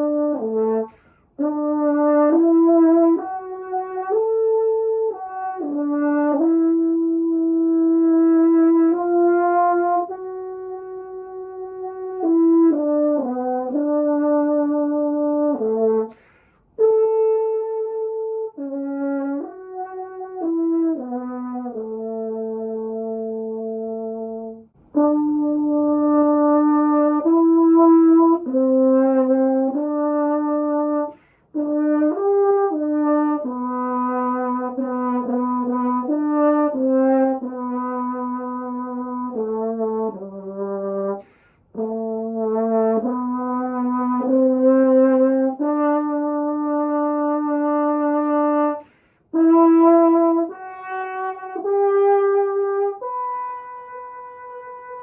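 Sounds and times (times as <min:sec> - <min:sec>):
french horn playing slow melody: 0:00.0 - 0:55.0.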